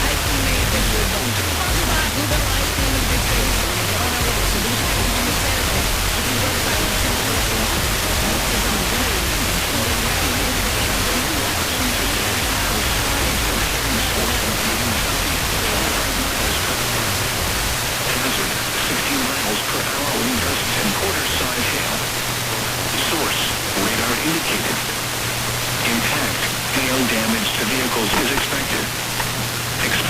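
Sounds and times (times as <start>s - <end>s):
faint music: 0.0s - 30.0s
radio static hiss: 0.0s - 30.0s.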